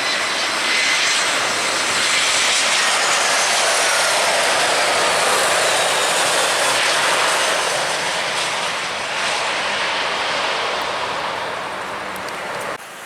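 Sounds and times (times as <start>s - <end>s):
airliner engines passing: 0.0s - 13.0s.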